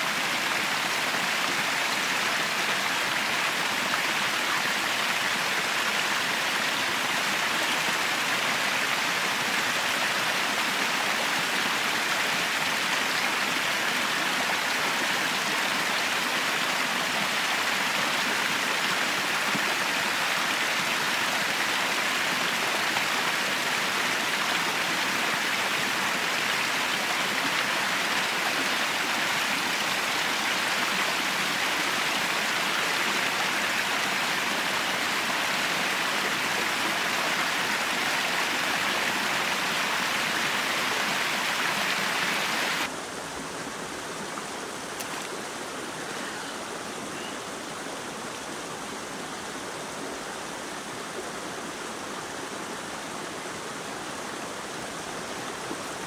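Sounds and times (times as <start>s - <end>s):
waterfalls pouring over rocks: 0.0s - 56.0s.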